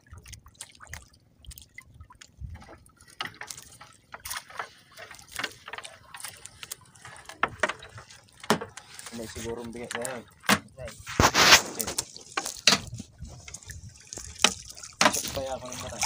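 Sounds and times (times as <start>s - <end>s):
seawater splashing and dripping: 0.0s - 16.0s.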